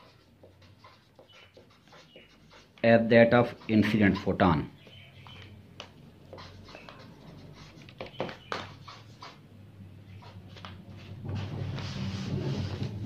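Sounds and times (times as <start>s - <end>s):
marker writing on paper: 0.0s - 13.0s.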